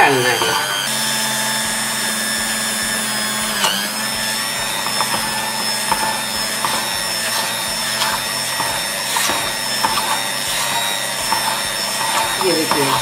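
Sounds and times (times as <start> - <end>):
electric hand beater running: 0.0 - 13.0
whisk beating in steel bowl: 0.0 - 13.0.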